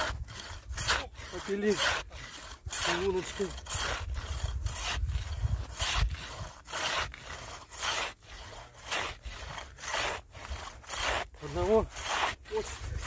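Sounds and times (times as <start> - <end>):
ice saw rasping strokes: 0.0 - 13.0.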